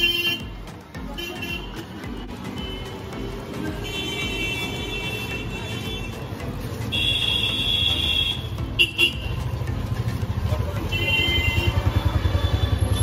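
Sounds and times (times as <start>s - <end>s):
vehicle horns honking: 0.0s - 0.6s, 1.2s - 9.4s, 10.8s - 13.0s
street traffic rumbling: 0.0s - 13.0s.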